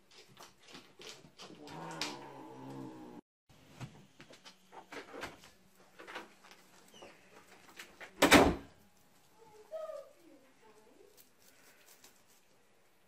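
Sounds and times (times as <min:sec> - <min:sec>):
kittens tapping and rustling: 0:00.0 - 0:02.2, 0:03.8 - 0:08.2, 0:08.8 - 0:13.0.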